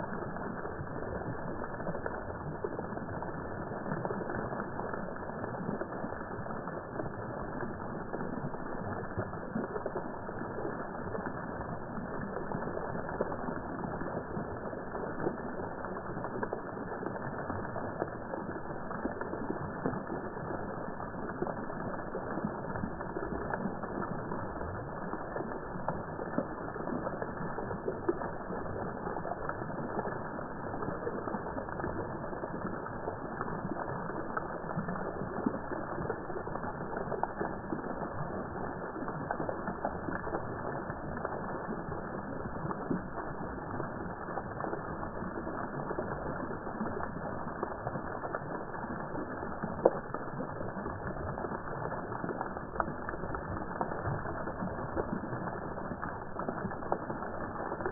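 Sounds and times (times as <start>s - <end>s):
fountain water splashing: 0.0s - 57.9s.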